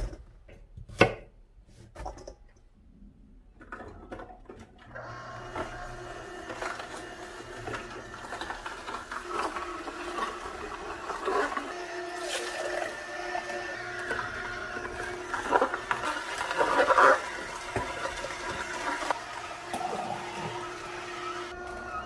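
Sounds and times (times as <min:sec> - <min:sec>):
juicer grinding hum: 0:03.7 - 0:22.0.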